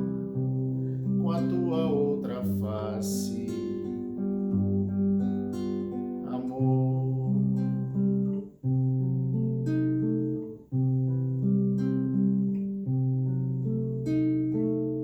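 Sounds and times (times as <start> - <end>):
acoustic guitar playing chords: 0.0 - 15.0.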